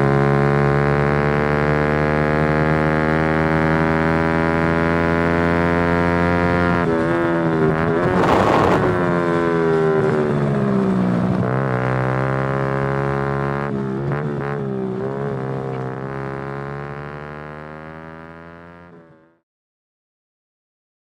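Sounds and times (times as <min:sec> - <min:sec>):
small motorcycle engines racing: 0:00.0 - 0:19.0.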